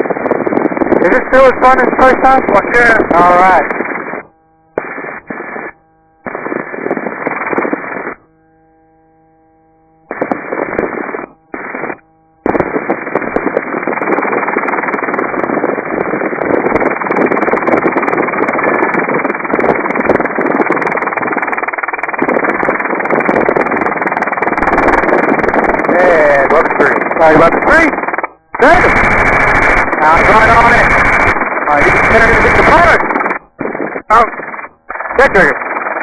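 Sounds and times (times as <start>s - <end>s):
helicopter cabin noise through headset: 0.0s - 36.0s.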